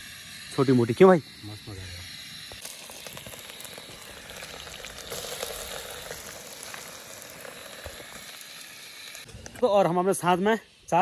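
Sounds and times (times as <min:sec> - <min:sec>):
food sizzling in hot oil: 0:00.0 - 0:09.9.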